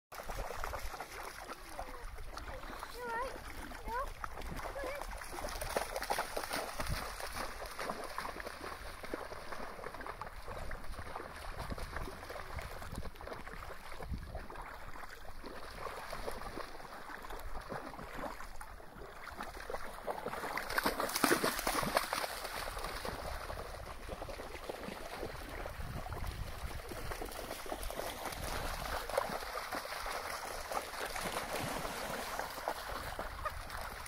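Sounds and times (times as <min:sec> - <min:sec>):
dogs splashing through water: 0:00.1 - 0:34.0.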